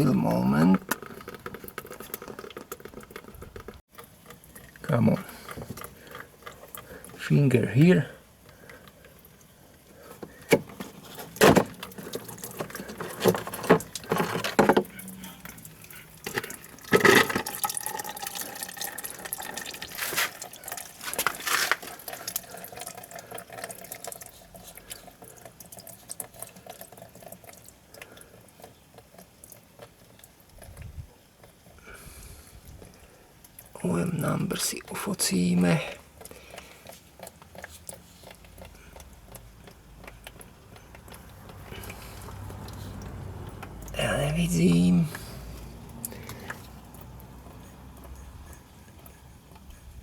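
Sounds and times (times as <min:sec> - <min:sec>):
fluid trickling and dripping: 0:00.0 - 0:50.0.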